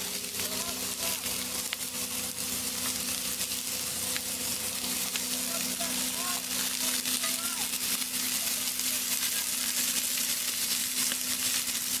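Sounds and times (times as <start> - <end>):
steady low hum: 0.0 - 12.0
vegetables sizzling in oil: 0.0 - 12.0.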